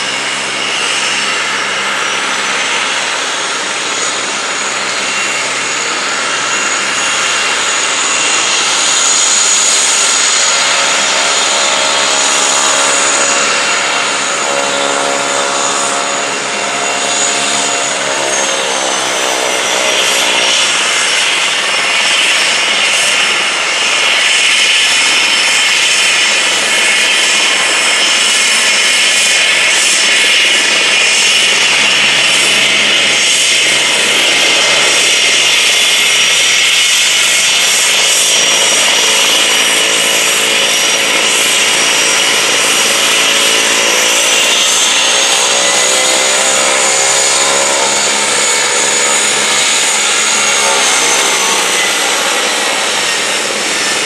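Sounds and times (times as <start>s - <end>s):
propeller drone: 0.0s - 54.0s
turboprop engine whine: 0.0s - 54.0s.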